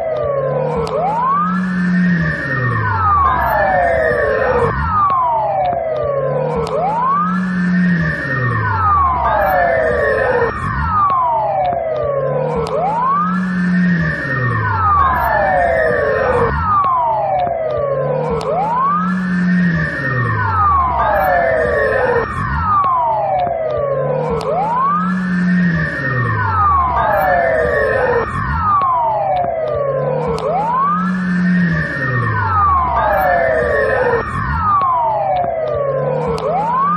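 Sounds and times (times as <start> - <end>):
police siren wailing: 0.0 - 36.9.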